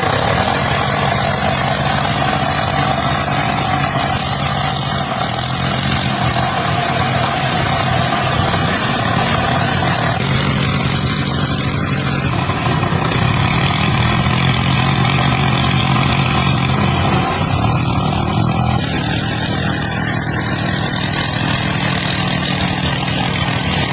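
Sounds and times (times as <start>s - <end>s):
diesel pump engine running: 0.0s - 23.9s.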